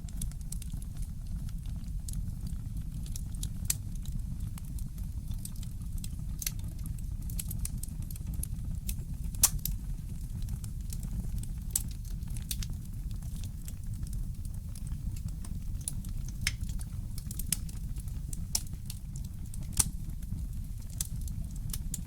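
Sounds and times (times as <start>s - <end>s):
wood fire crackling: 0.1s - 22.0s.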